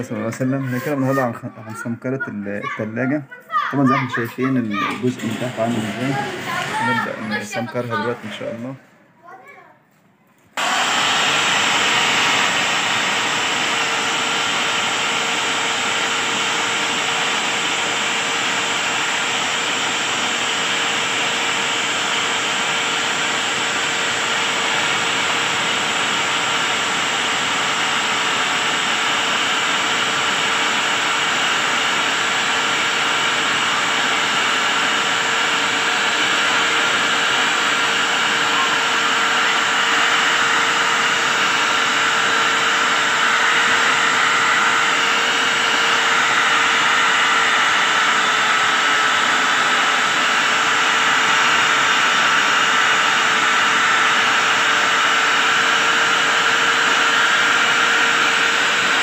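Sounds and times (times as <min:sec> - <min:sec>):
angle grinder scouring metal: 0:04.4 - 0:08.6, 0:10.6 - 0:59.0.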